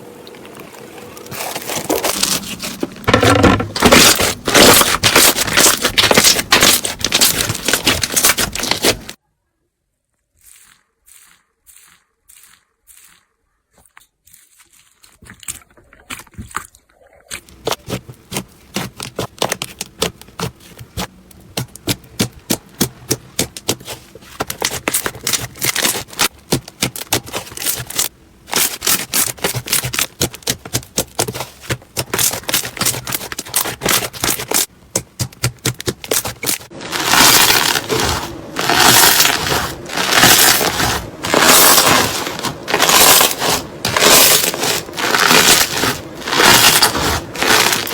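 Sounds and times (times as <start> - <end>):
crunchy slime crackling: 0.4 - 9.2, 10.2 - 47.9.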